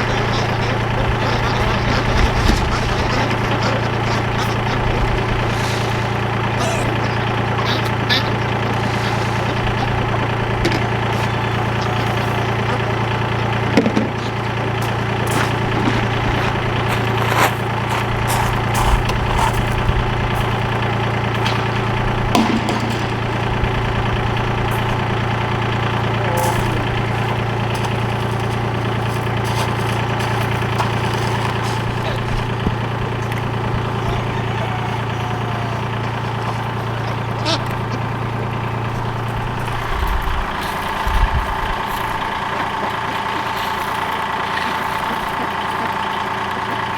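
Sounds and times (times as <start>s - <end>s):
vehicle engine idling: 0.0s - 46.9s.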